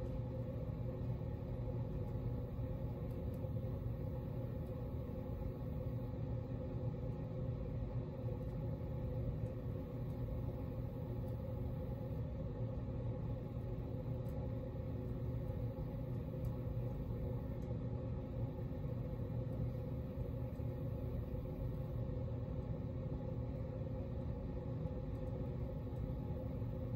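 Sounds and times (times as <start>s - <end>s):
ceiling fan humming: 0.0s - 26.9s.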